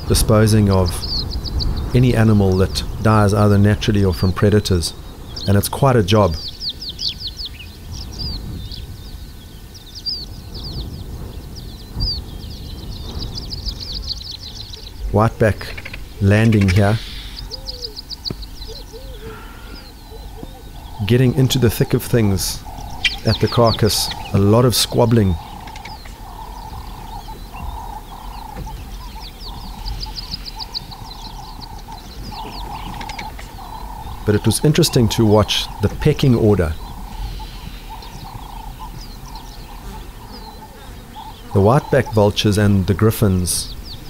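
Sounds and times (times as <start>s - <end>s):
low steady rumble: 0.0s - 41.4s
birds chirping: 0.0s - 44.0s
lower bird call: 0.0s - 44.0s.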